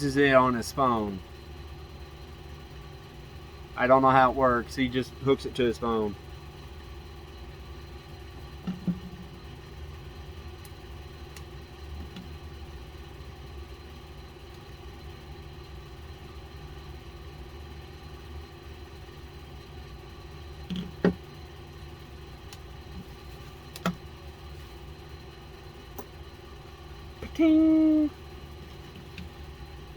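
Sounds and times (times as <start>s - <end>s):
air conditioner humming: 0.0s - 29.9s.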